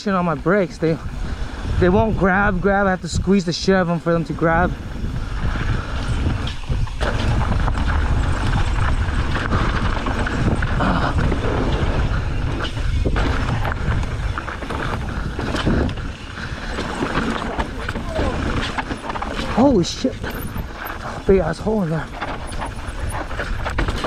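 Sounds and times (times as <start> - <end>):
bike rattling over bumps: 0.0 - 24.0
wind rumble on microphone: 0.0 - 24.0
tyres crunching over dirt: 4.1 - 24.0.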